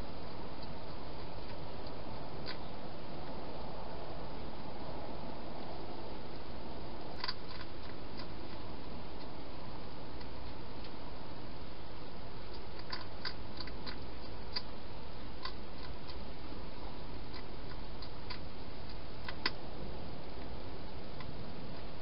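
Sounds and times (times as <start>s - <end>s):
hedgehog crunching food: 0.0s - 2.7s, 5.6s - 21.9s
steady background hiss: 0.0s - 22.0s.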